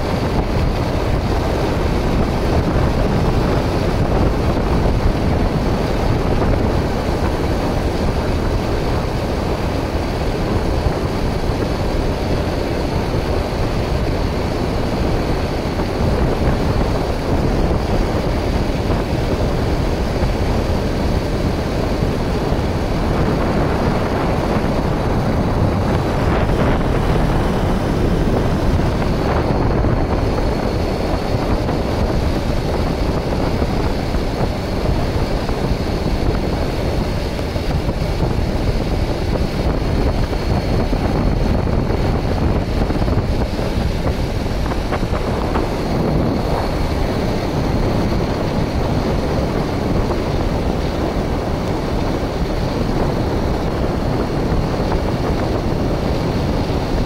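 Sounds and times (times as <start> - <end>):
motorcycle engine: 0.0 - 57.0
wind rush over microphone: 0.0 - 57.0.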